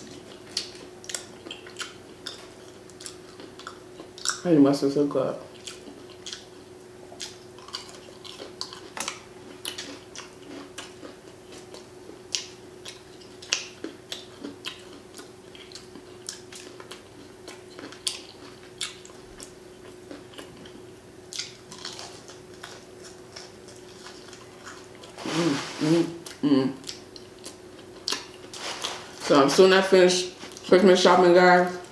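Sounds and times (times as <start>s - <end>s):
faint steady hum: 0.0s - 31.9s
wet chewing and lip smacking: 0.1s - 4.4s, 5.5s - 25.2s, 26.2s - 28.6s.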